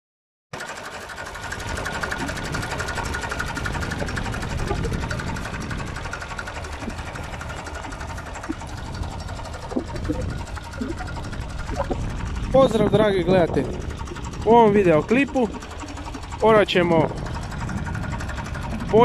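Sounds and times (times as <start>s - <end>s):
tractor diesel engine running: 0.6s - 19.0s.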